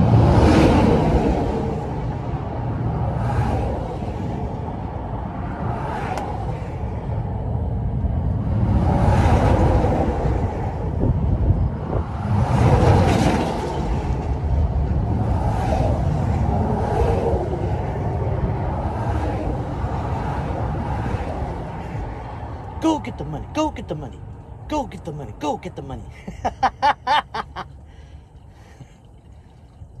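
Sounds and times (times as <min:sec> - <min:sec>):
low engine rumble: 0:00.0 - 0:30.0
vehicles passing with whoosh: 0:00.0 - 0:30.0.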